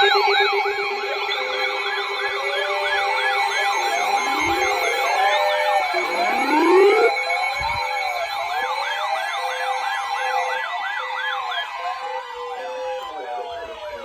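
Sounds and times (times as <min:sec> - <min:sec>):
sirens wailing and yelping: 0:00.0 - 0:14.0.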